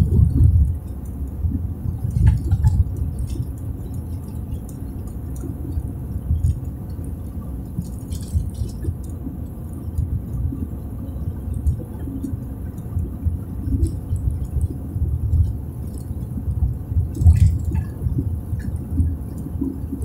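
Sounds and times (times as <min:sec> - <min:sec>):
tyres and engine rumble: 0:00.0 - 0:20.0.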